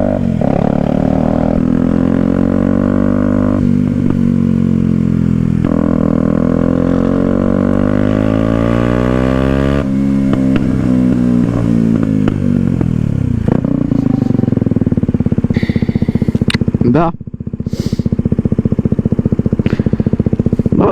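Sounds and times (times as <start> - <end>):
exhaust crackles: 0.0 - 20.9
motorcycle engine revving: 0.0 - 20.9.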